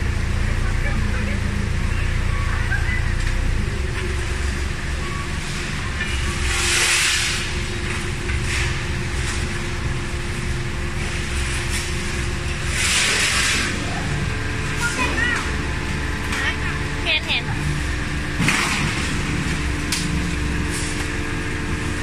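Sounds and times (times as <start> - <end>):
forklift engine rumbling: 0.0 - 22.0.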